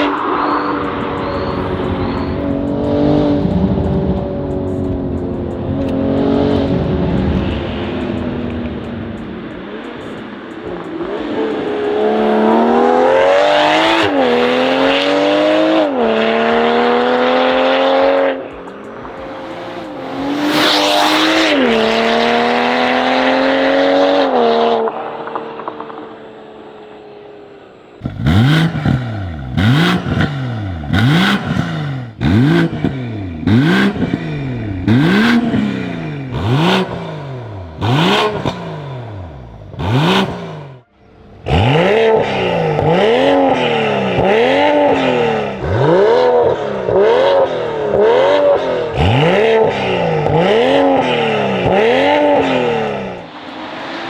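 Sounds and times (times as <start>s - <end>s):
car engine accelerating hard: 0.0s - 54.0s
engine revving in throttle blips: 0.0s - 54.0s.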